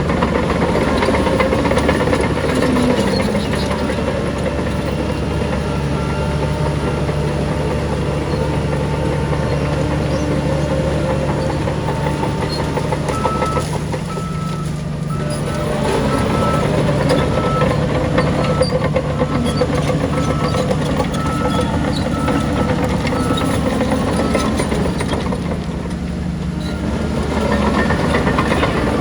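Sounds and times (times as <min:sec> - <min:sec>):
heavy diesel engine running: 0:00.0 - 0:29.0
reversing alarm beeping: 0:00.6 - 0:25.0.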